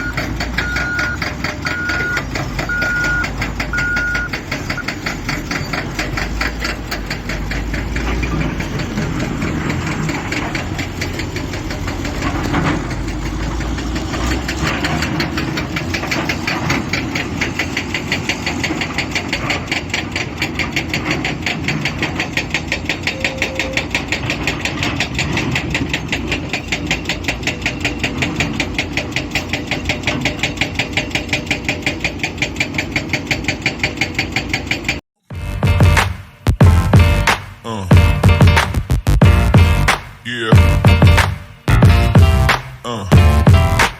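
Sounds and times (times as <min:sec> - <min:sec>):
heavy diesel engine knocking: 0:00.0 - 0:43.9.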